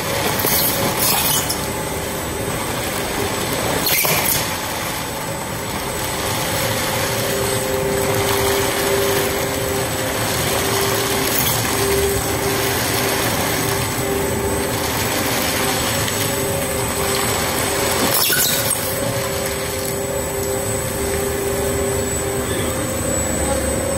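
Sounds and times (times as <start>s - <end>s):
mechanical whine: 0.0s - 23.9s
plastic shredder grinding: 0.0s - 23.9s.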